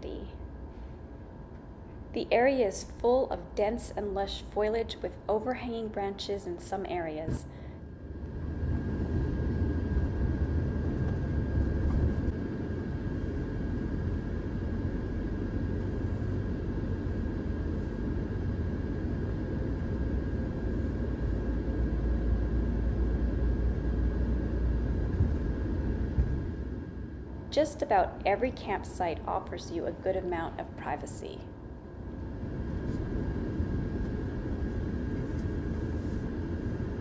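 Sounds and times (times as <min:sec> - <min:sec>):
faint steady whine: 0:00.0 - 0:37.0.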